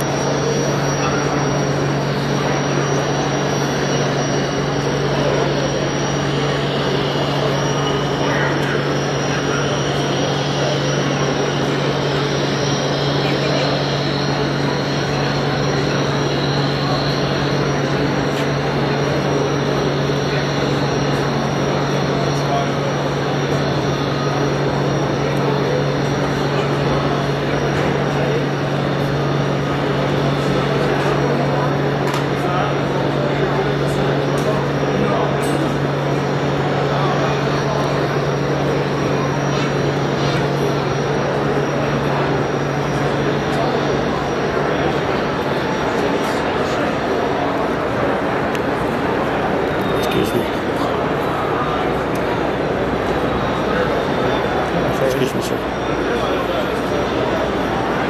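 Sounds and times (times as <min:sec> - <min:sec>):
murmur of many voices: 0:00.0 - 0:58.0.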